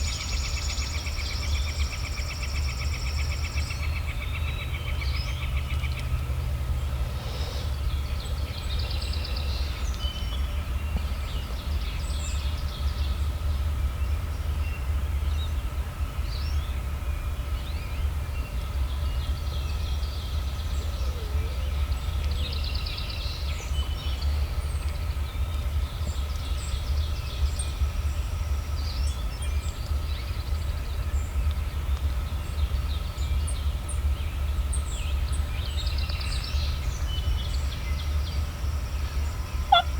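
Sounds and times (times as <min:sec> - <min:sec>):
faint hum: 0:00.0 - 0:39.9
songbirds singing: 0:00.0 - 0:39.9.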